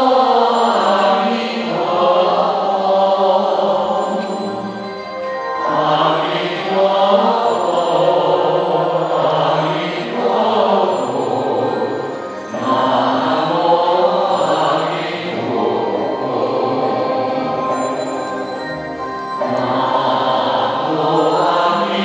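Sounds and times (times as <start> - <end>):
many voices chanting: 0.0 - 22.0.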